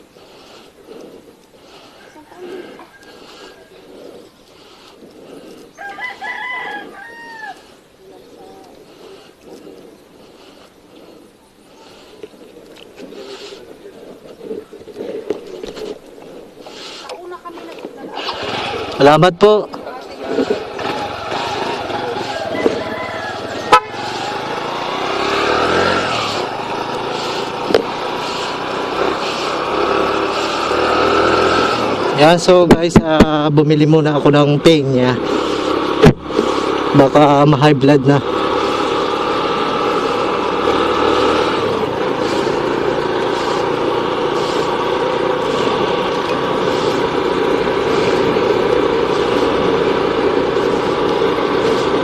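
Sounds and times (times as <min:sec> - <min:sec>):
motor vehicle running: 0:00.0 - 0:52.0.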